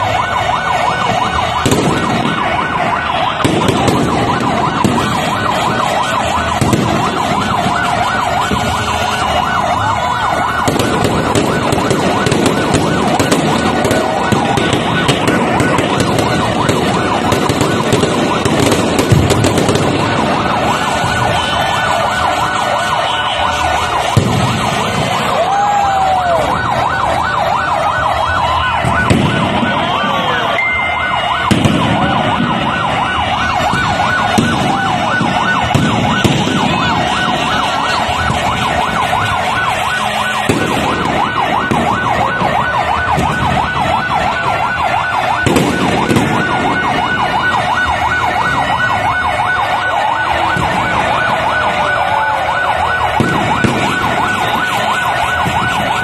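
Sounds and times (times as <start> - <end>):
deep booms of fireworks: 0.0 - 56.0
whistling fireworks: 0.0 - 56.0.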